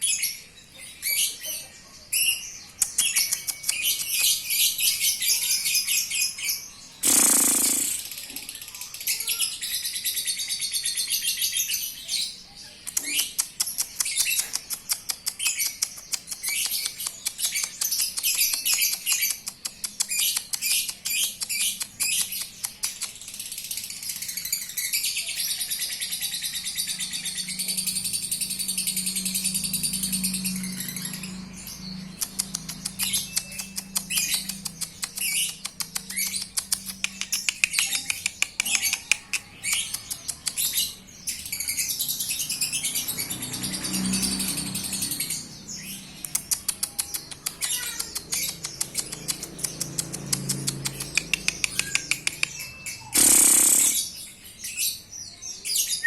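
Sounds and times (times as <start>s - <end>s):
bird chattering and trilling: 0.0s - 56.0s.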